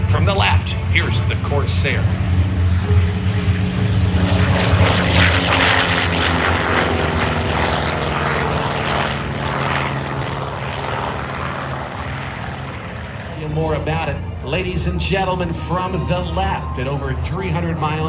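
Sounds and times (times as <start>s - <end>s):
propeller plane engine passing: 0.0s - 18.0s.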